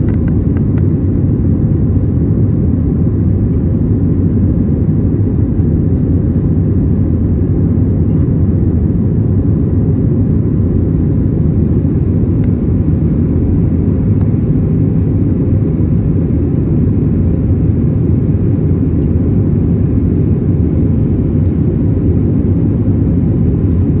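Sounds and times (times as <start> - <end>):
airliner engine rumble in cabin: 0.0 - 24.0.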